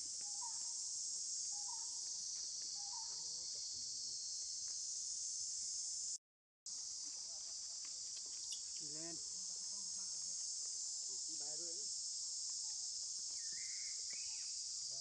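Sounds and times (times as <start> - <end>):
insects shrilling: 0.0 - 6.2, 7.9 - 15.0.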